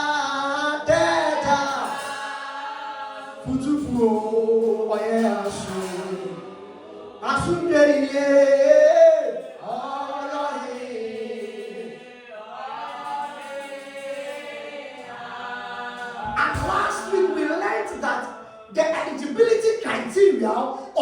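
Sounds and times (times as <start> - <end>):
voices singing slow song: 0.0 - 21.0.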